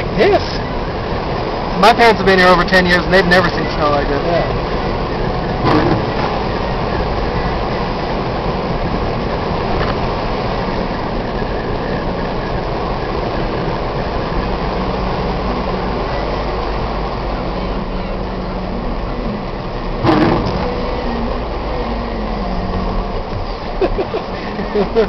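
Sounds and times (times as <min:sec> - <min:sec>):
road and engine noise in cabin: 0:00.0 - 0:25.0.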